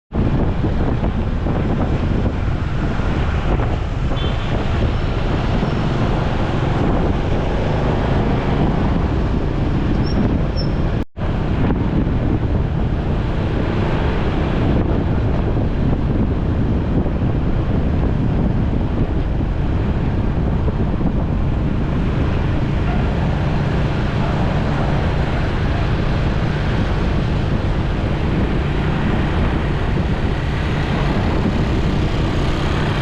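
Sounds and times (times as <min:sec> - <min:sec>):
road noise: 0:00.1 - 0:33.0
wind buffeting microphone: 0:00.1 - 0:33.0.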